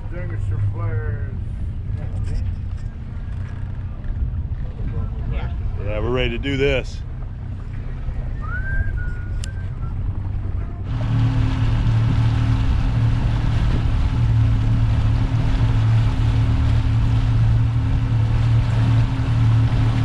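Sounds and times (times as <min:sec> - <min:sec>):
outboard motors humming: 0:00.0 - 0:20.0
rush of wind and water: 0:00.0 - 0:20.0.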